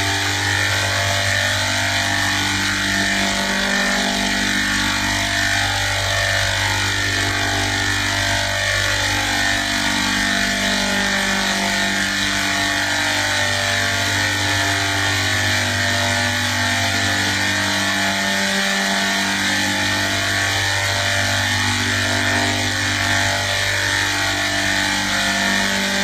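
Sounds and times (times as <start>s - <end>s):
steady machine drone: 0.0s - 26.0s.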